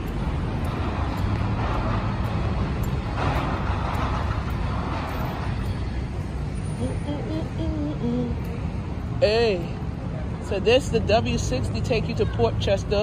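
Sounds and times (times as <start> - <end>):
traffic driving past: 0.0 - 13.0.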